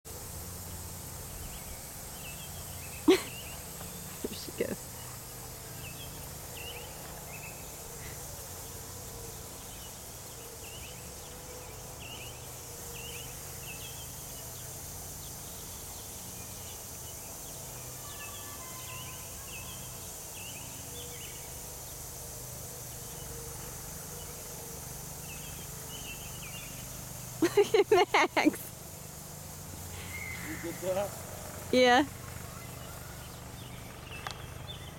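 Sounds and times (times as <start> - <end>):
high chirps of birds or insects: 0.1 - 34.9
steady hiss: 0.1 - 34.9.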